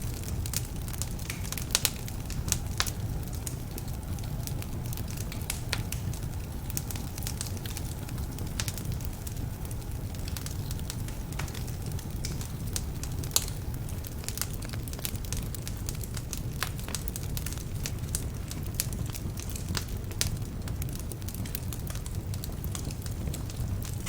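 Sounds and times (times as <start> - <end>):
logs crackling and popping: 0.0 - 24.0
wood fire rumbling: 0.0 - 24.0.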